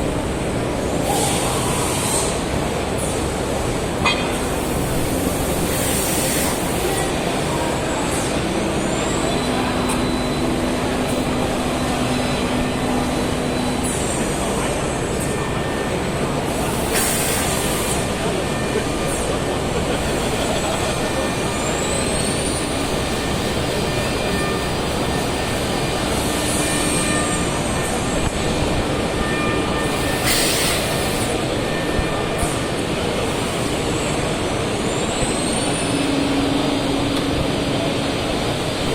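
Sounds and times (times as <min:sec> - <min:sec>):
crowd chatter: 0:00.0 - 0:38.9
running machinery: 0:00.0 - 0:38.9.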